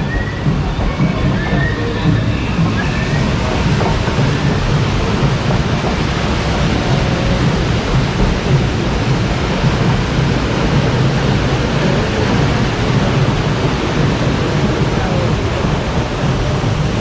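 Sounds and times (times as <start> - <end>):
churning water rushing: 0.0 - 17.0.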